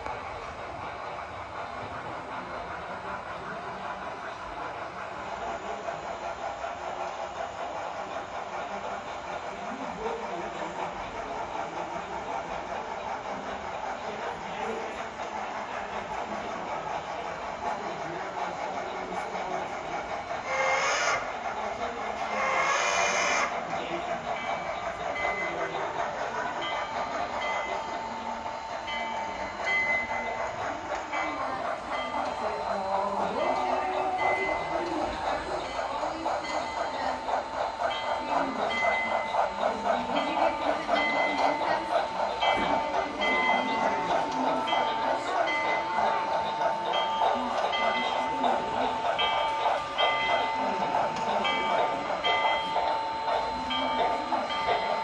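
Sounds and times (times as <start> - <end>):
model train running sounds: 0.0 - 55.0.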